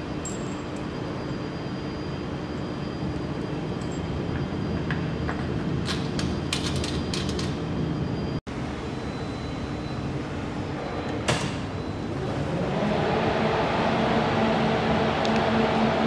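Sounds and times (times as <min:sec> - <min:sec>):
laser welding machine hum: 0:00.0 - 0:16.0.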